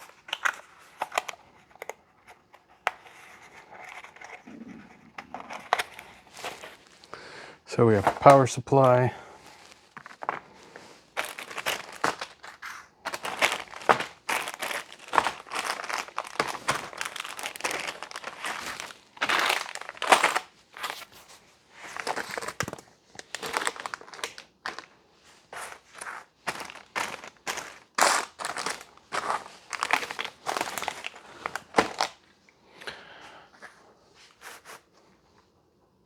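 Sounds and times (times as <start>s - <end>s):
packing material crinkling: 0.0s - 2.0s, 3.0s - 32.3s.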